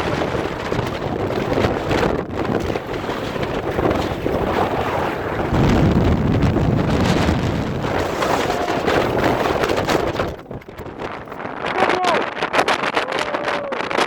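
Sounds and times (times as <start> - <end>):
strong wind on microphone: 0.0 - 14.0.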